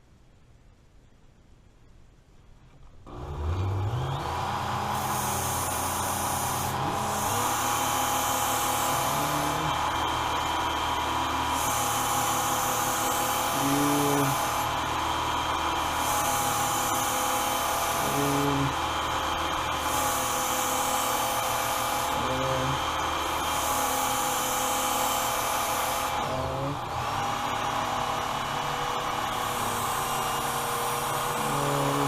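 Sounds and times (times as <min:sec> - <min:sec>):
belt sharpener motor running: 0:03.1 - 0:32.0
blade grinding on belt: 0:03.1 - 0:32.0.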